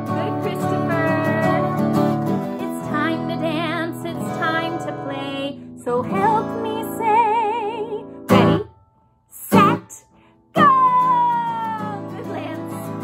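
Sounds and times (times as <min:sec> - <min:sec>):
acoustic guitar: 0:00.0 - 0:13.0
woman singing with vibrato: 0:00.0 - 0:13.0.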